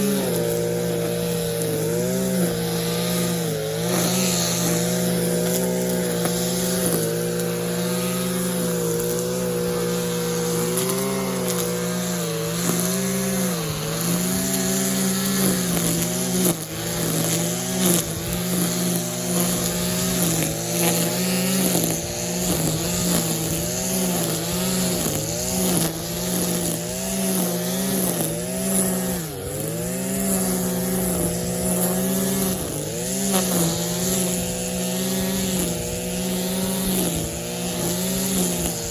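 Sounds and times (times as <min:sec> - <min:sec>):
line trimmer engine running: 0:00.0 - 0:38.9.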